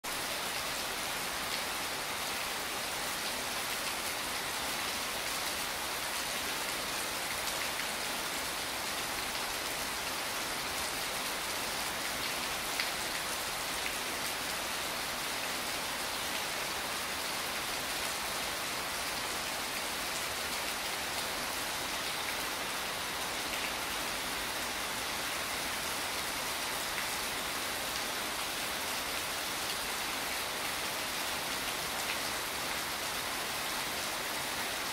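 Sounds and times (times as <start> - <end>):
rain on stone paving: 0.0 - 34.9.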